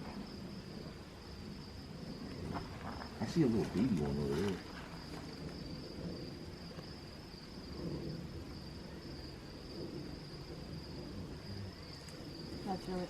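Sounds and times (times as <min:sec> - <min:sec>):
crickets chirring: 0:00.0 - 0:13.0
faint low rumble: 0:00.0 - 0:13.0.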